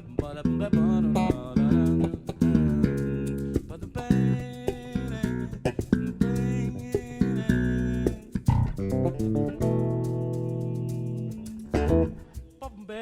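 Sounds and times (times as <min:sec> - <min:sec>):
bass guitar melody: 0:00.0 - 0:12.6
percussive clicks: 0:01.3 - 0:12.6.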